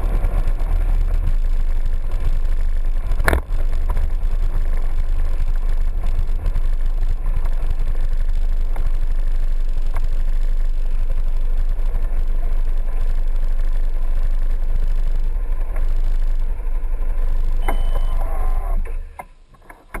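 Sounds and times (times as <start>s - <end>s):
sharp ticks: 0.0s - 18.6s
scooter engine rumbling: 0.0s - 20.0s.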